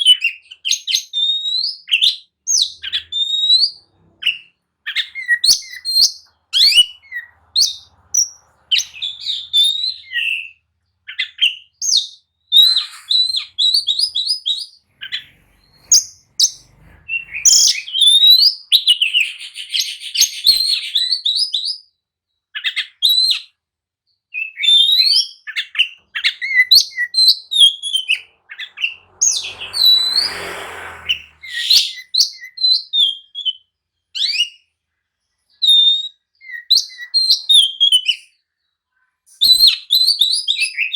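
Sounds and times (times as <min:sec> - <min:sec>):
bird singing whistles and chirps: 0:00.0 - 0:23.5, 0:24.3 - 0:34.7, 0:35.5 - 0:38.4, 0:39.3 - 0:40.9.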